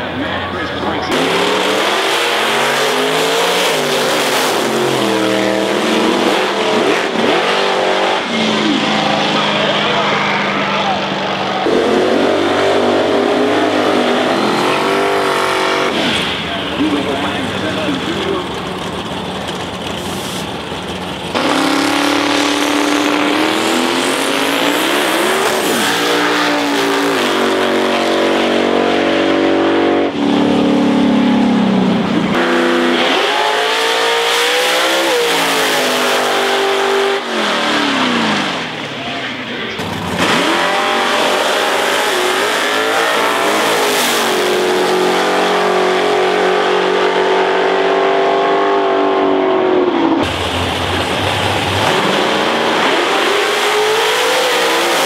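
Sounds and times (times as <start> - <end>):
drag racing engines revving: 0.0 - 55.0.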